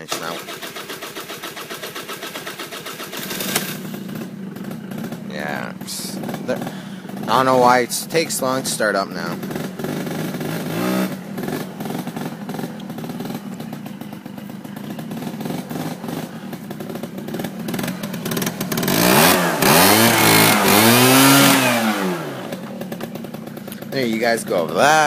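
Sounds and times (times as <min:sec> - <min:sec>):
scooter engine running and revving: 0:00.0 - 0:25.0.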